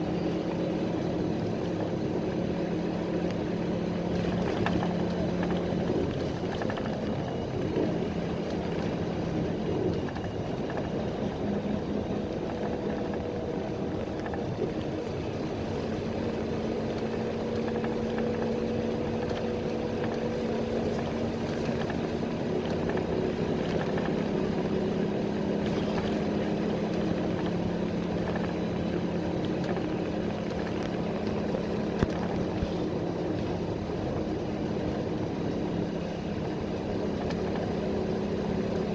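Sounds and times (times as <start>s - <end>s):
bus engine drone: 0.0s - 38.9s
road and tyre noise: 0.0s - 38.9s.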